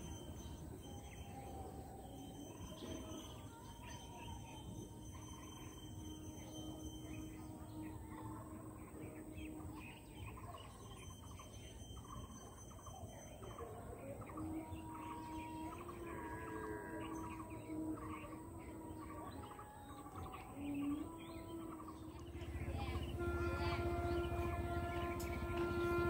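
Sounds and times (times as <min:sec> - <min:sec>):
birds chirping: 0:00.0 - 0:26.0
low outdoor background hum: 0:00.0 - 0:26.0.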